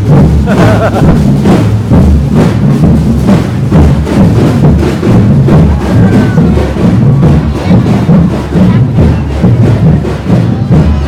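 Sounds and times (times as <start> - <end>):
crowd noise: 0.0 - 11.0
drummers playing a steady beat: 0.0 - 11.0.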